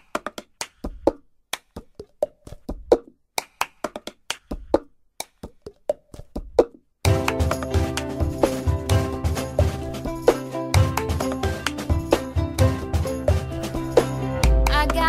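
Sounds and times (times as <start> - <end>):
hand claps and slaps: 0.0 - 9.0, 9.6 - 13.8.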